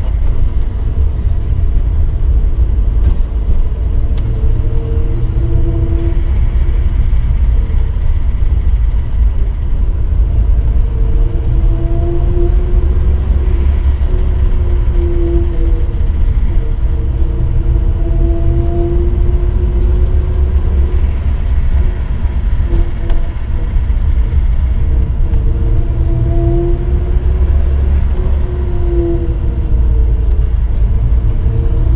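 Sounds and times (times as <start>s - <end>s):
car engine revving: 0.0s - 31.9s
engine knocking: 0.0s - 31.9s
road rumble: 0.0s - 31.9s.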